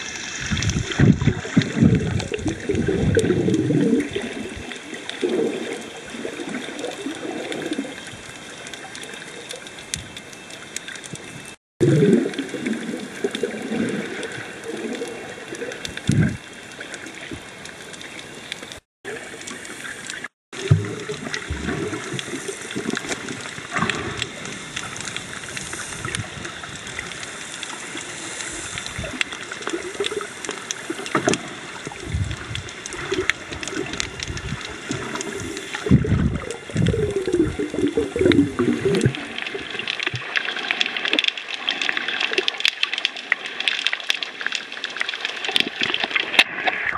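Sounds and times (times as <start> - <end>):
underwater sloshing and gurgling: 0.0 - 46.9.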